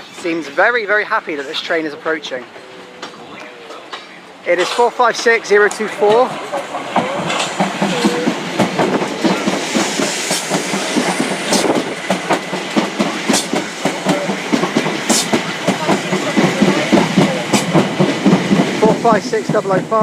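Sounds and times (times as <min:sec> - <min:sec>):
train wheels clattering over rail joints: 0:02.5 - 0:20.0.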